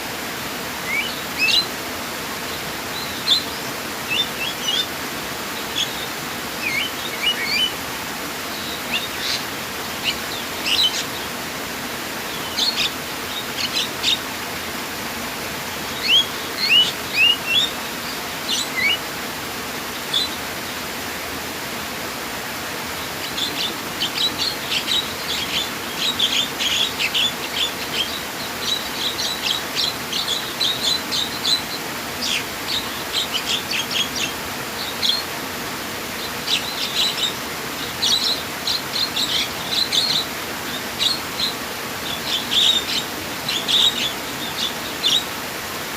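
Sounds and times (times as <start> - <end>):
water flowing: 0.0 - 45.9
birds chirping: 0.7 - 14.4, 15.2 - 19.2, 19.8 - 20.8, 22.6 - 45.9.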